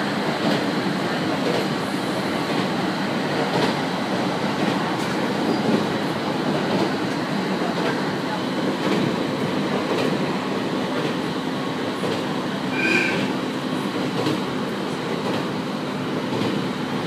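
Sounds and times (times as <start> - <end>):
electric train rolling rumble: 0.0 - 17.0
rail joints clacking: 0.0 - 17.0.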